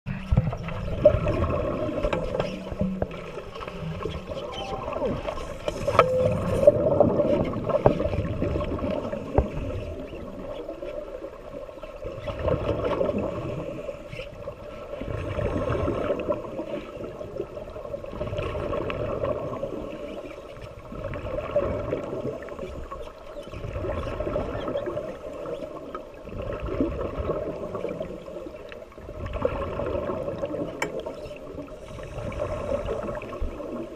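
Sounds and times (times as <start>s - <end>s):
muffled underwater water noise: 0.0s - 33.9s.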